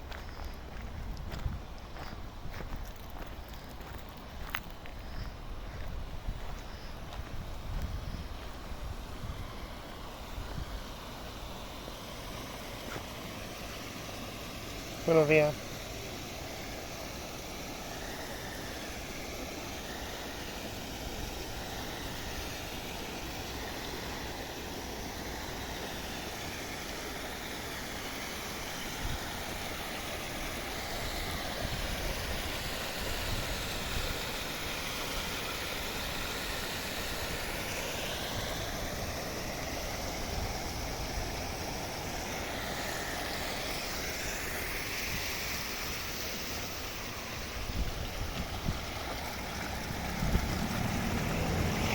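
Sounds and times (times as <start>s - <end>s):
river water rushing: 8.4s - 51.9s.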